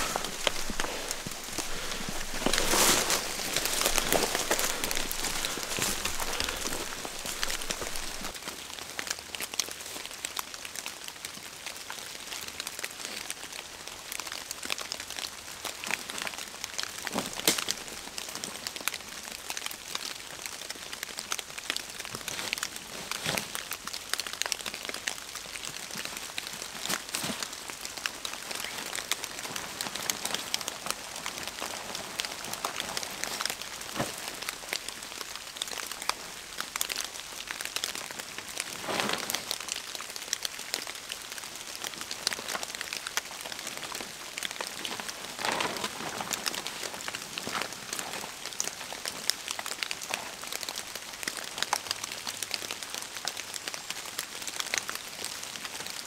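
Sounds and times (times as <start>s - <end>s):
rustles: 0.0s - 8.8s, 14.3s - 21.0s, 21.6s - 56.0s
rain falling on leaves: 0.0s - 56.0s.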